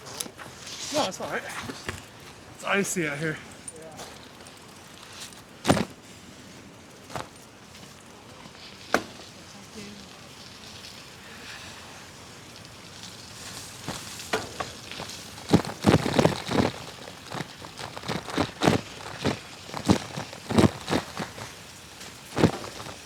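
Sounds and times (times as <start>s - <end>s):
faint crackling hiss: 0.0s - 23.0s.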